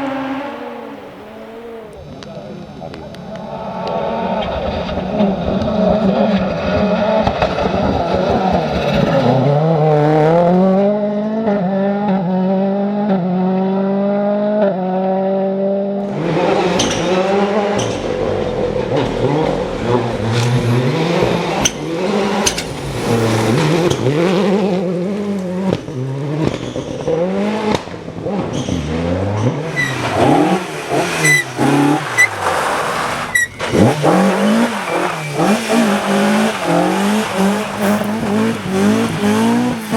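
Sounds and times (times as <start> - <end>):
car engine revving through gear changes: 0.0 - 2.0, 3.9 - 39.9
rally car engine at full throttle: 0.0 - 39.9.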